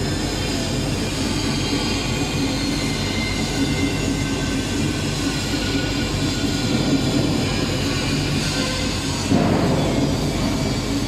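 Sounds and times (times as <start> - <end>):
machine drum turning: 1.1 - 11.0.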